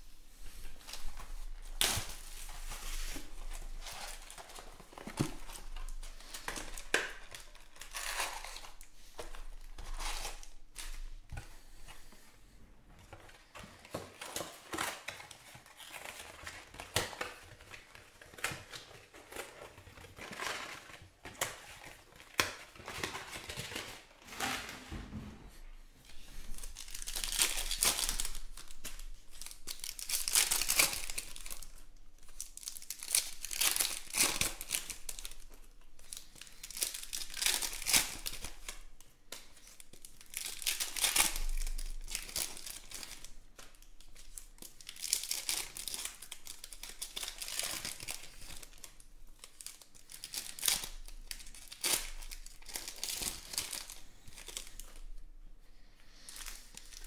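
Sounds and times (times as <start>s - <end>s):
foil wrappers tearing and crinkling: 0.8s - 11.1s, 13.5s - 24.4s, 26.4s - 55.1s.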